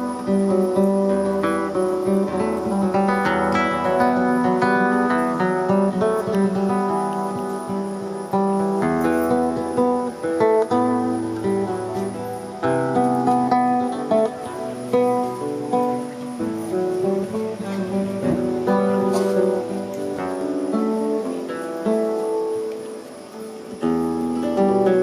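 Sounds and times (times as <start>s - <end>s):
plucked string music: 0.0s - 25.0s.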